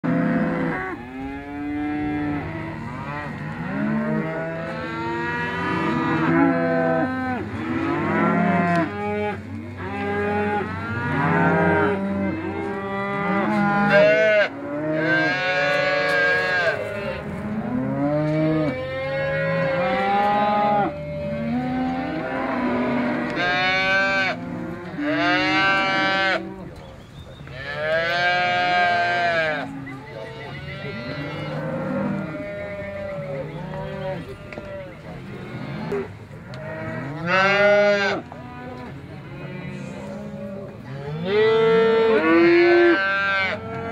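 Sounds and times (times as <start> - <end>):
cattle mooing: 0.0 - 26.7, 27.6 - 43.9.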